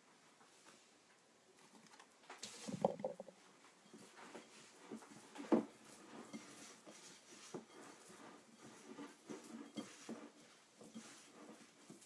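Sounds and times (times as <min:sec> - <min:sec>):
hands kneading soft dough: 0:00.0 - 0:12.0.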